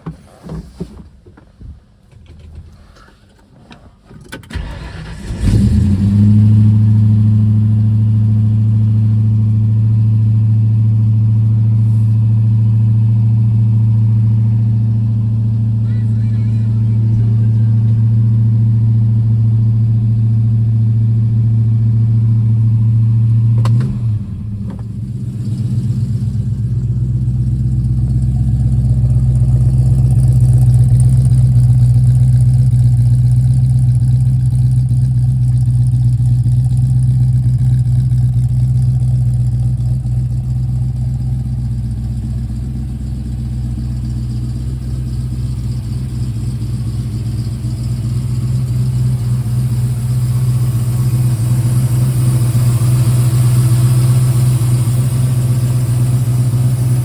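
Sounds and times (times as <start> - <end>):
car engine idling: 1.2 - 57.0.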